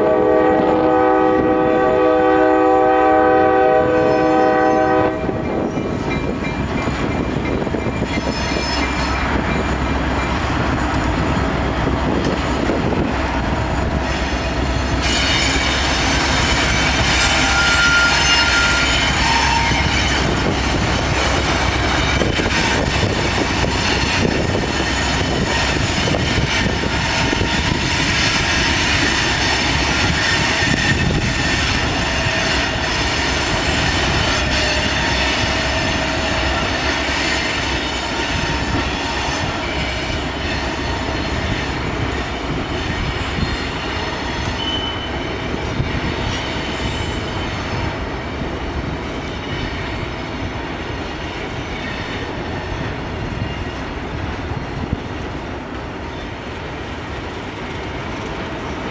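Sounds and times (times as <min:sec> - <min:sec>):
freight train passing: 0:00.0 - 0:58.9.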